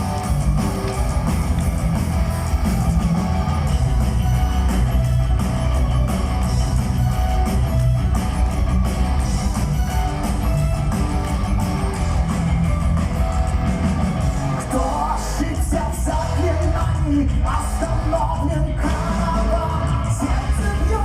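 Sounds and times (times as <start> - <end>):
bass: 0.0 - 21.0
distorted electric guitars: 0.0 - 21.0
drums: 0.0 - 21.0.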